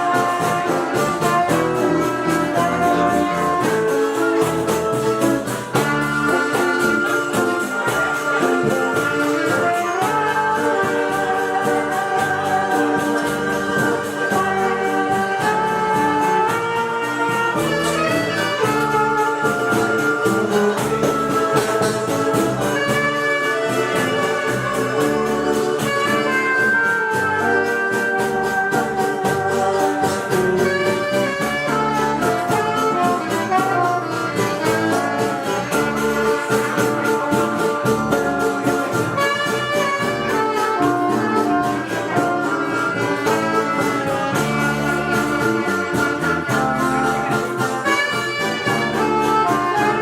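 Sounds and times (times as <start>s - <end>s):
bolero music: 0.0s - 50.0s.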